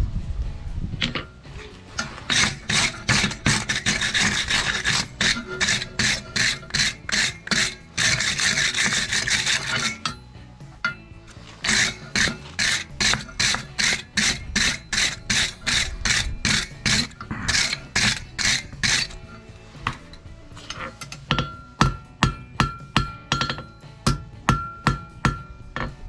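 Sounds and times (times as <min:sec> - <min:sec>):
faint scraping: 0:00.4 - 0:21.8
scraping strokes on steel: 0:01.0 - 0:26.0.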